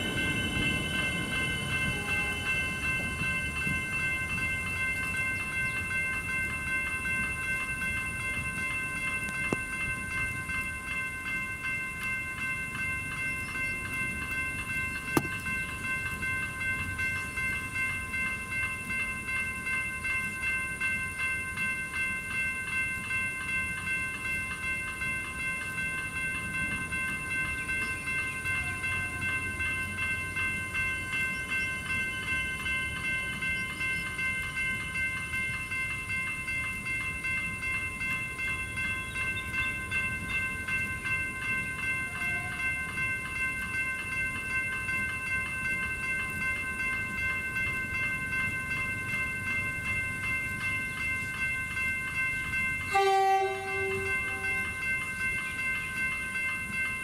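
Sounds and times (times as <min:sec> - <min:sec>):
level crossing bells ringing: 0:00.0 - 0:57.0.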